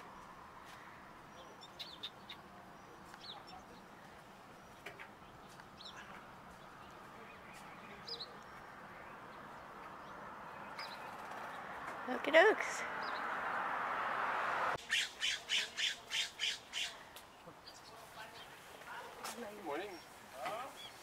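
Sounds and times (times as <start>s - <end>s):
faint background noise: 0.0s - 21.0s.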